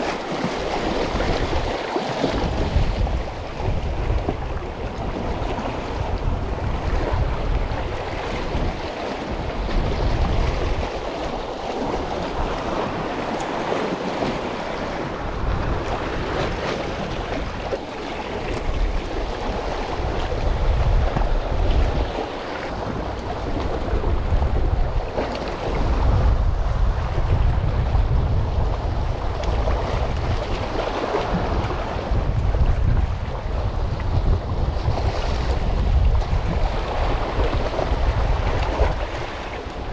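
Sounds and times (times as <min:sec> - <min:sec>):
sea waves splashing on concrete: 0:00.0 - 0:27.6, 0:28.5 - 0:39.9
wind buffeting microphone: 0:00.0 - 0:39.9.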